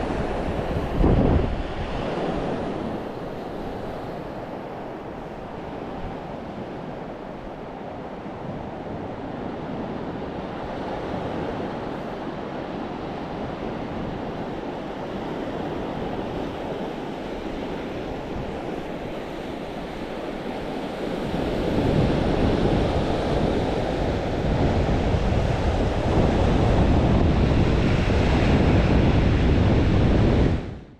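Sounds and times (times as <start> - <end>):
surf washing on shore: 0.0 - 30.9
wind on microphone: 0.0 - 30.9.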